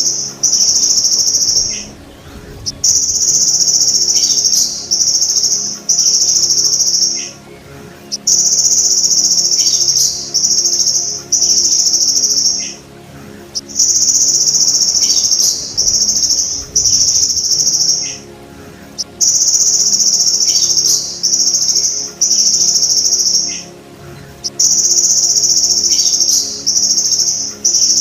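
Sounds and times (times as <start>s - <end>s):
grasshopper buzzing trill: 0.0s - 28.0s.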